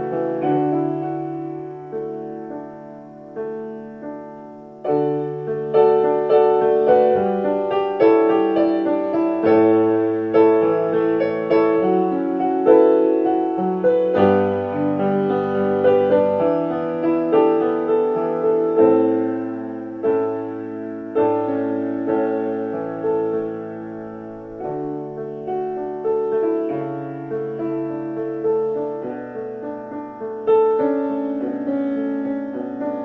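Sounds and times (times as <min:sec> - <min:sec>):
solo piano chords: 0:00.0 - 0:33.0.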